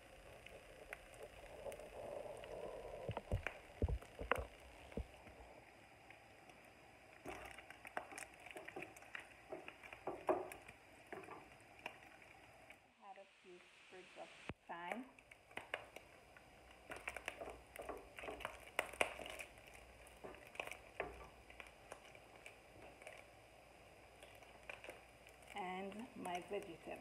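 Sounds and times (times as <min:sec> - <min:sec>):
bacon sizzling in a frying pan: 0:00.0 - 0:12.8, 0:13.6 - 0:27.0.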